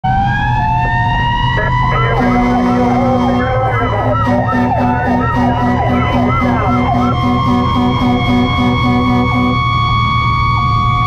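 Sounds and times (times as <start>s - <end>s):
long rising siren wail: 0.0s - 11.0s
warbling siren: 0.0s - 11.0s
pulsing low horn tone: 0.1s - 11.0s.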